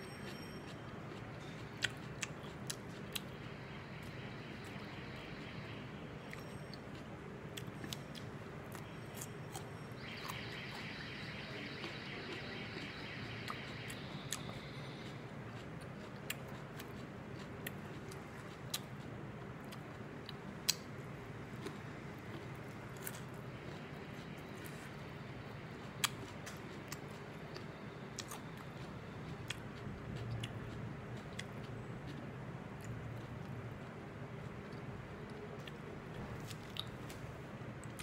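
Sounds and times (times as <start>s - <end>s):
steady low hum: 0.0s - 38.0s
chewing: 0.1s - 37.2s.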